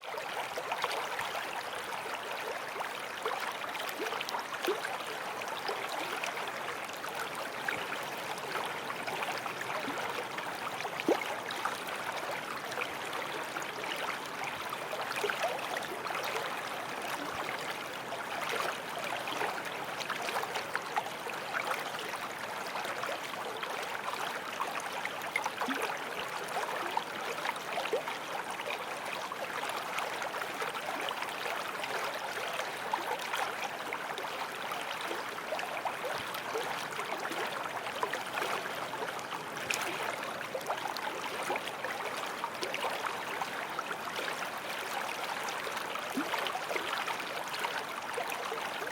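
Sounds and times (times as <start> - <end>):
creek running: 0.0 - 48.9
water splashes and gurgles: 0.1 - 48.9.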